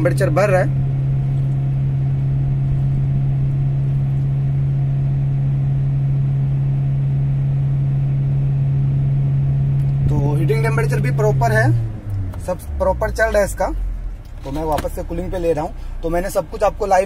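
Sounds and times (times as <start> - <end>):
car engine and heater blower hum: 0.0 - 17.0.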